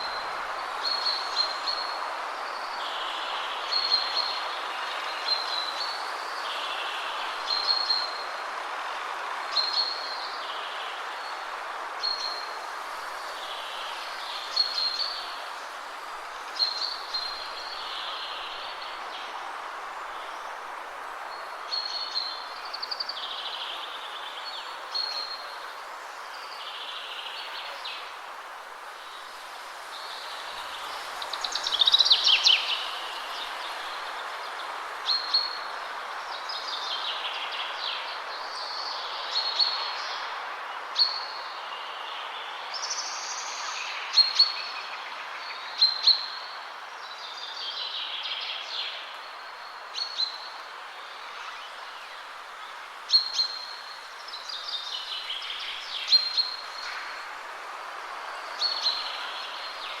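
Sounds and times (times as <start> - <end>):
wind through trees: 0.0 - 60.0
songbirds singing: 9.5 - 60.0.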